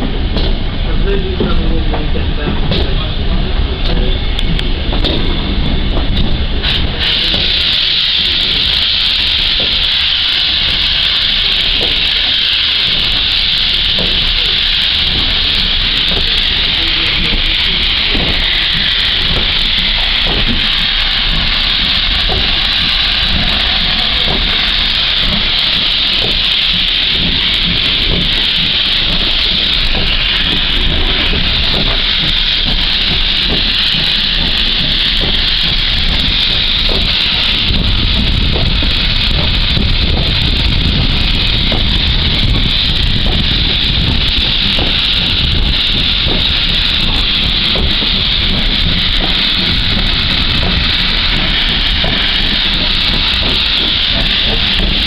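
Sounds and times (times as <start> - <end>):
steam locomotive hissing steam: 0.0 - 55.0
train rumbling: 0.0 - 55.0.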